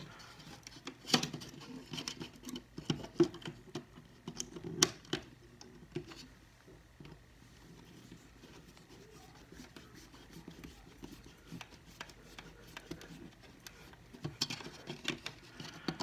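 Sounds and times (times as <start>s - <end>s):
screwdriver scratching and clicking: 0.0s - 16.0s.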